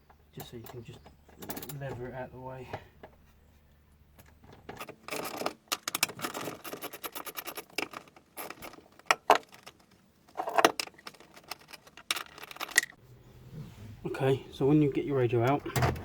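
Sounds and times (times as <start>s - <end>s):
hard parts rattling and scraping: 0.1s - 13.0s.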